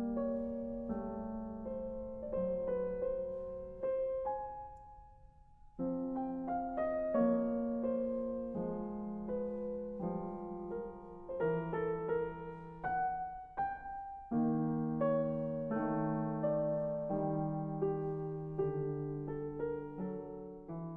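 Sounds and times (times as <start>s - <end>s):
slow gentle piano music: 0.0s - 20.9s.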